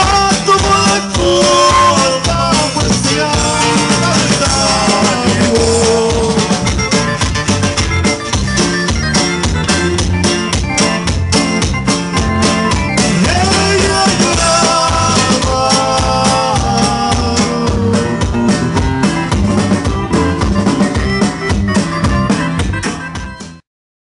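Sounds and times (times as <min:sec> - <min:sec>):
drum beat: 0:00.0 - 0:23.6
live band playing: 0:00.0 - 0:23.6.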